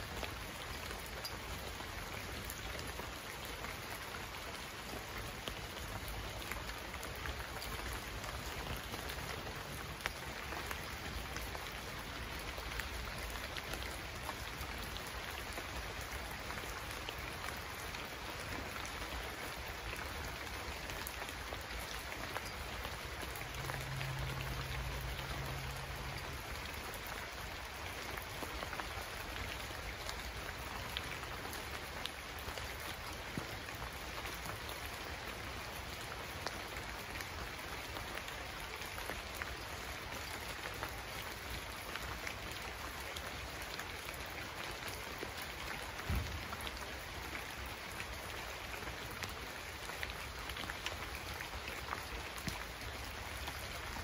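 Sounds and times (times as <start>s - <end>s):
heavy rainfall: 0.0s - 54.0s
raindrops ticking: 0.1s - 54.0s.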